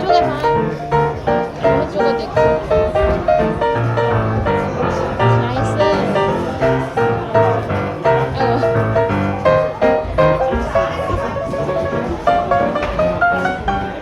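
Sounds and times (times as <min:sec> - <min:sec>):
upbeat instrumental music: 0:00.0 - 0:14.0.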